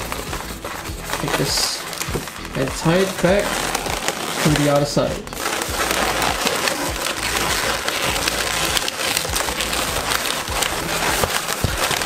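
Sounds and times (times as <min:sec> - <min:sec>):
balloons rubbing and squeaking: 0:00.0 - 0:12.0.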